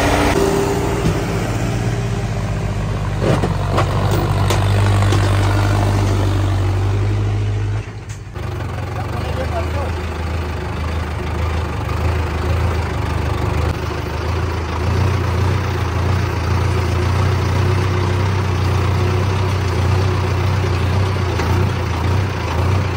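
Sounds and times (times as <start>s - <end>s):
tractor diesel engine droning: 0.0s - 22.9s.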